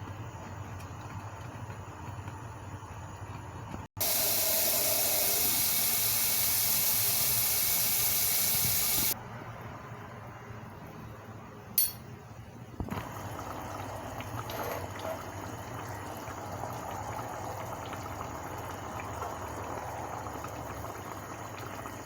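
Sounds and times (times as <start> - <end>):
liquid bubbling in a pot: 0.1 - 9.2, 12.8 - 22.0.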